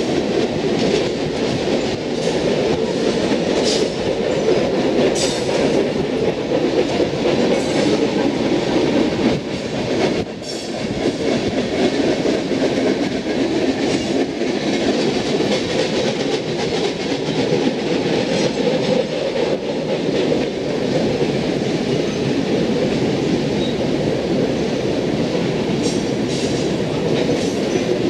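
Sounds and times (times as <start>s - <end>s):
train wheel clacks: 0.0s - 28.0s
train wheels rumbling on rails: 0.0s - 28.0s.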